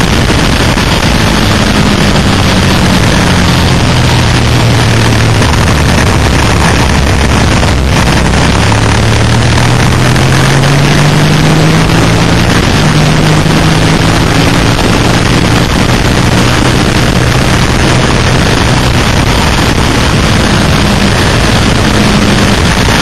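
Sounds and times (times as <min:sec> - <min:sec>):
motorcycle engine accelerating: 0:00.0 - 0:23.0
wind rush: 0:00.0 - 0:23.0.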